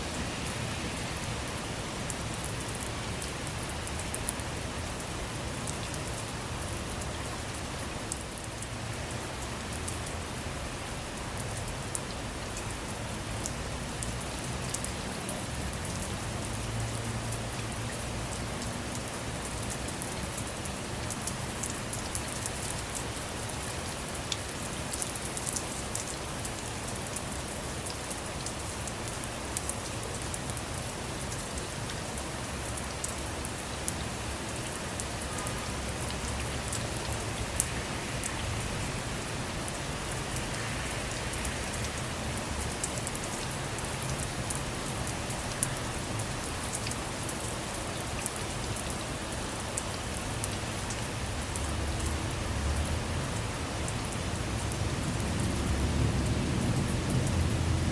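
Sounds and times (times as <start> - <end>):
rain falling on a car: 0.0 - 57.9.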